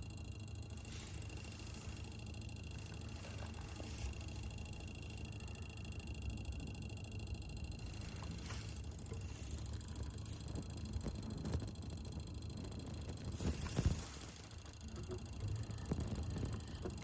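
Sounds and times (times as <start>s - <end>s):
refrigerator compressor humming: 0.0s - 17.0s.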